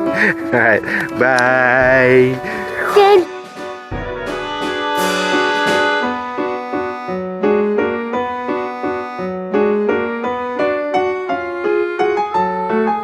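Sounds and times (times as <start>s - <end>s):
light piano tune: 0.0s - 13.0s.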